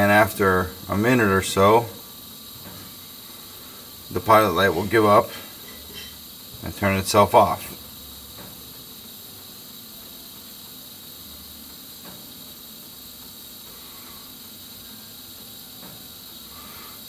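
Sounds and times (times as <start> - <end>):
pilot light hissing: 0.0 - 17.0.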